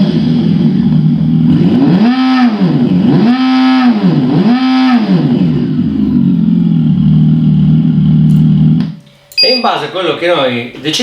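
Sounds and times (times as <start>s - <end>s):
synthetic engine sound revving and idling: 0.0s - 9.0s.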